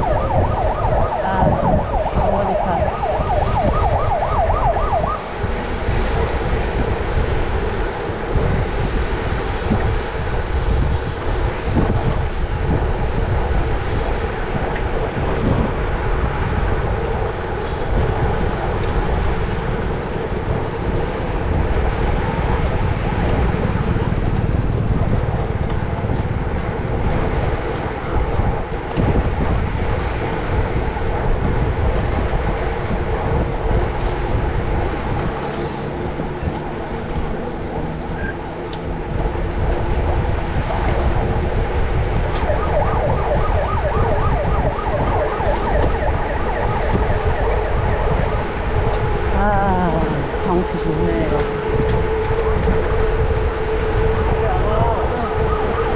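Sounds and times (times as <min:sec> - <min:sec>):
vehicle siren: 0:00.0 - 0:55.9
wind and road noise: 0:00.0 - 0:55.9.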